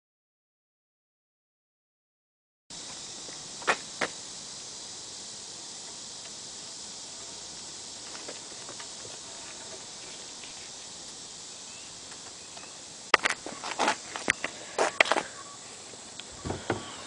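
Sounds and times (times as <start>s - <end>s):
steady high hiss: 2.7s - 17.0s.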